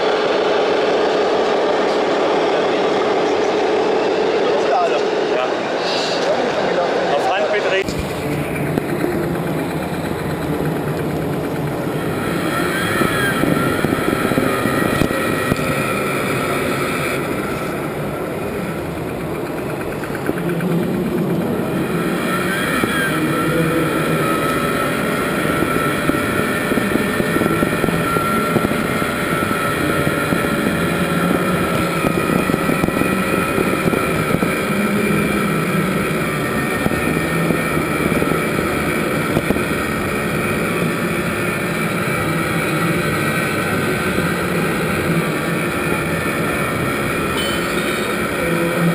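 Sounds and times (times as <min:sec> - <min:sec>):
model crane motor drone: 0:00.0 - 0:48.9.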